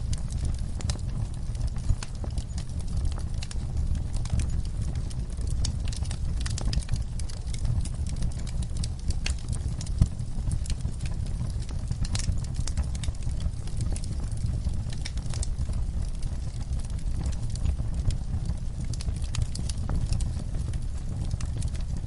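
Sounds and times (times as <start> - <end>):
fire flames rumbling: 0.0 - 22.0
wood fire crackling and popping: 0.0 - 22.0.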